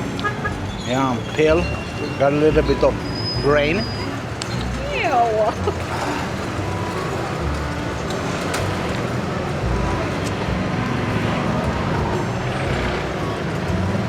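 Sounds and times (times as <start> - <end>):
faint voices: 0.0 - 14.0
traffic rumble: 0.0 - 14.0.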